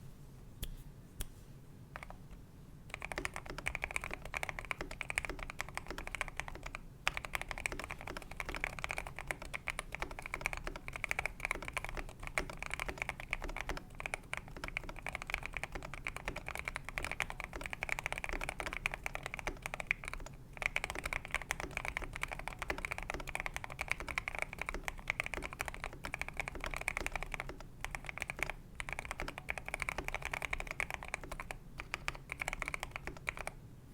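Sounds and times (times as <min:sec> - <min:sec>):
fast typing on mechanical keyboard: 0:02.9 - 0:33.6.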